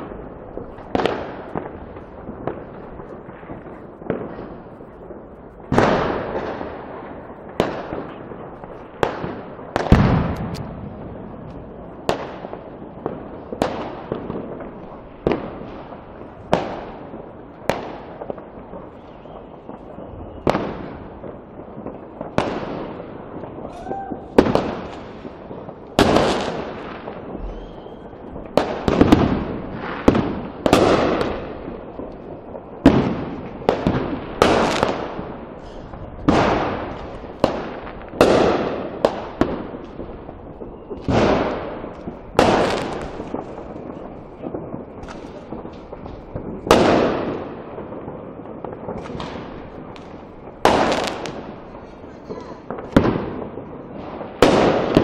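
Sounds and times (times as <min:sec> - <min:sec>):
fireworks and firecrackers banging: 0:00.0 - 0:55.0.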